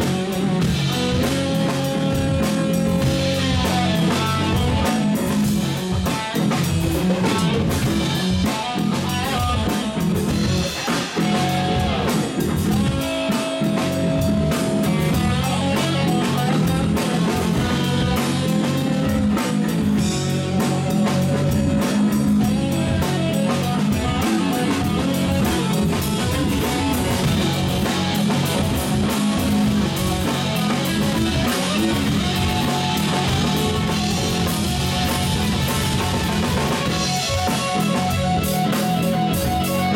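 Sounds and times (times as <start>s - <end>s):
bass guitar: 0.0s - 39.9s
drum kit: 0.0s - 39.9s
electric guitar bending notes: 0.0s - 39.9s.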